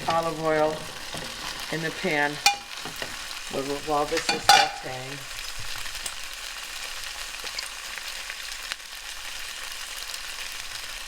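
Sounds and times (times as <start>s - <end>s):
small crackles: 0.0s - 11.0s
vegetables sizzling in oil: 0.0s - 11.0s.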